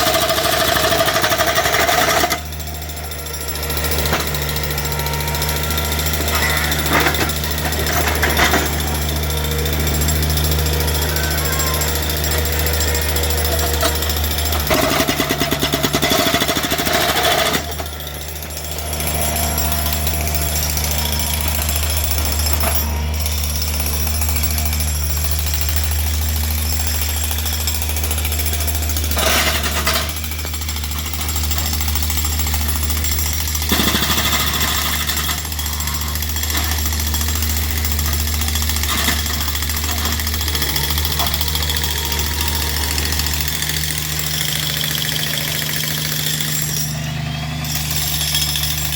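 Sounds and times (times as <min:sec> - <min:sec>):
jackhammer breaking concrete: 0:00.0 - 0:48.9.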